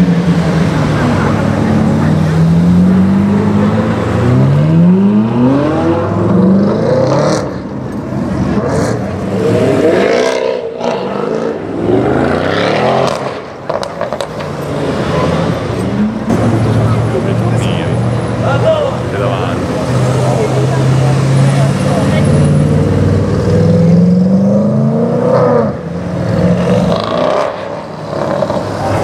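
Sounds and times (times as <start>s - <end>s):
cars accelerating past: 0.0s - 29.0s.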